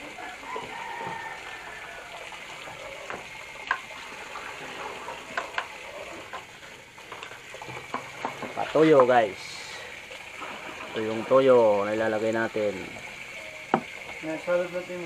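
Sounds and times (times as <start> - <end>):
pot hissing: 0.0 - 15.0.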